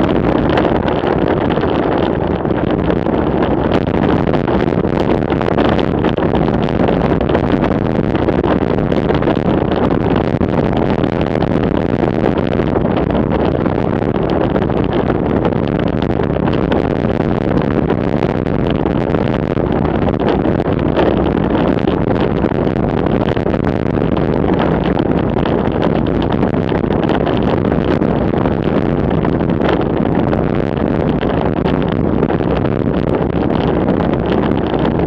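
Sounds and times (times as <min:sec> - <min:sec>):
wind rush over microphone: 0:00.0 - 0:35.0.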